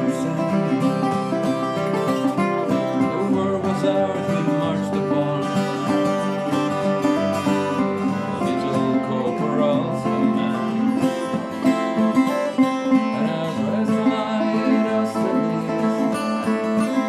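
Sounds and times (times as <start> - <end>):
acoustic guitar strumming: 0.0 - 17.0
resonator guitar plucking: 0.0 - 17.0.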